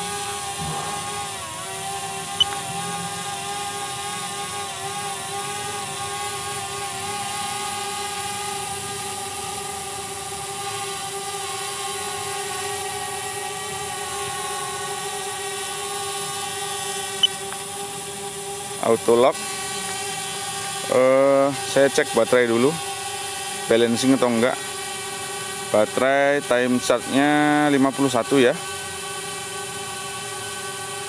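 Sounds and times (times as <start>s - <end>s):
drone propellers whining: 0.0s - 31.0s.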